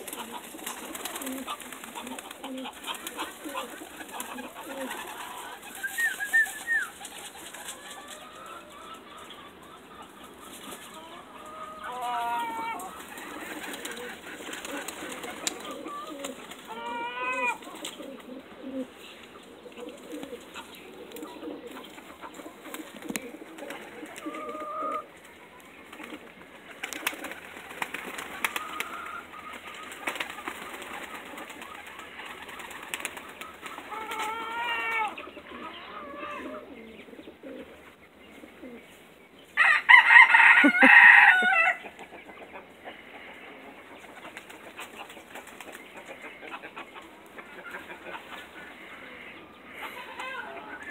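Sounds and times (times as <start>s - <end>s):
pigeons cooing: 0.0s - 39.0s, 39.6s - 50.9s
chickens calling: 0.0s - 50.9s.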